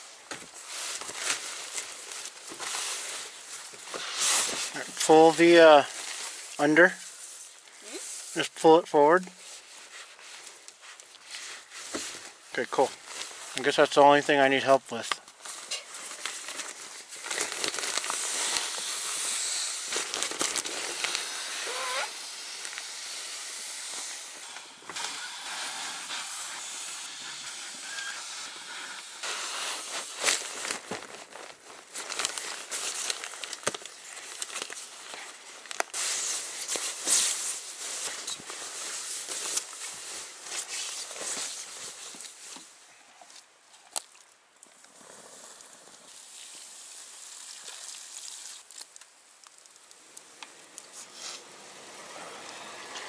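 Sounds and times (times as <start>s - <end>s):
nylon bedding rustling and crinkling: 0.0s - 44.0s.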